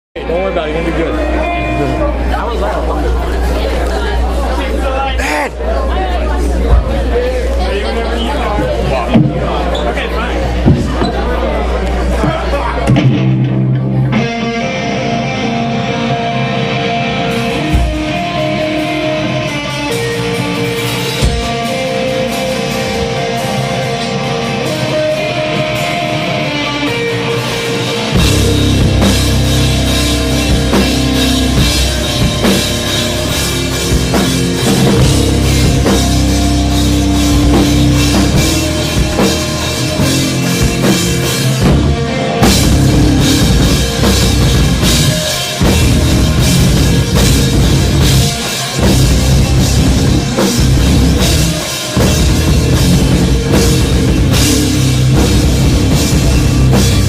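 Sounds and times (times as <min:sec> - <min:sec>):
rock band playing live: 0:00.2 - 0:57.0
electric guitar: 0:09.1 - 0:57.0.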